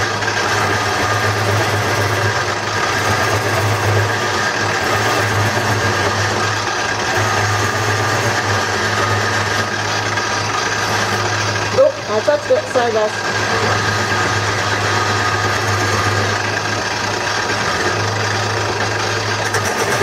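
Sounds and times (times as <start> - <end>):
wood lathe running: 0.0 - 20.0.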